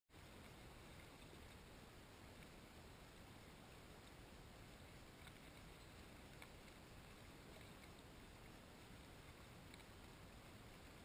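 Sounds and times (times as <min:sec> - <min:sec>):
faint steady hiss: 0:00.1 - 0:11.0
faint ticks: 0:00.2 - 0:11.0.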